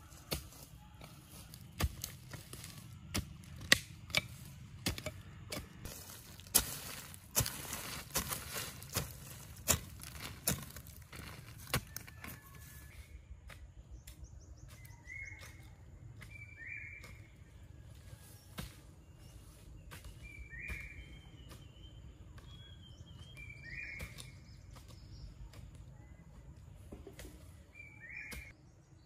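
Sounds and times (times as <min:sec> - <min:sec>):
birds with falling chirps: 0:05.2 - 0:29.0.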